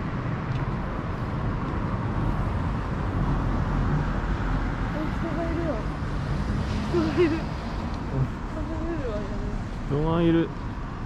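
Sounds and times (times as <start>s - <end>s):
road traffic rushing hum: 0.0s - 11.0s.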